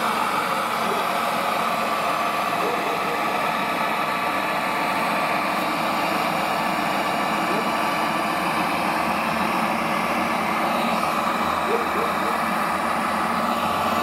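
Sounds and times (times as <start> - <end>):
water pump humming: 0.0 - 14.0.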